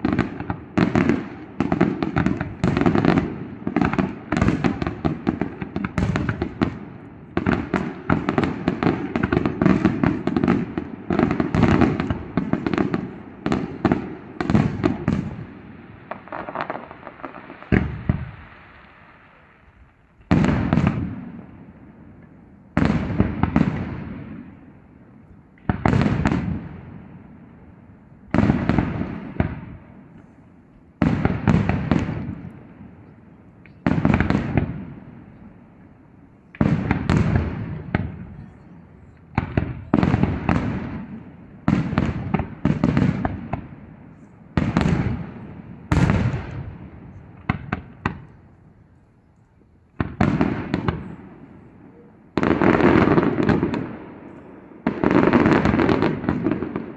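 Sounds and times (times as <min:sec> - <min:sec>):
fireworks bursting: 0:00.0 - 0:56.9.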